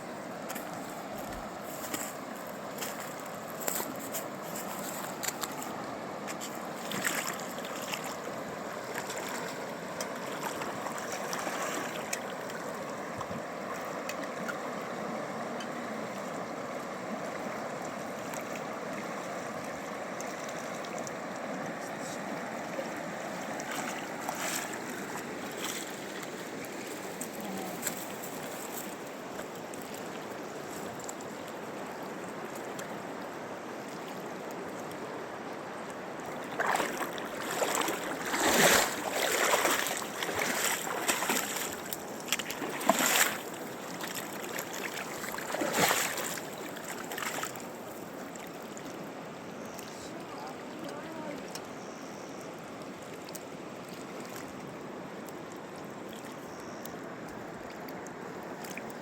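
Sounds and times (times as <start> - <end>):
river rushing: 0.0 - 51.7.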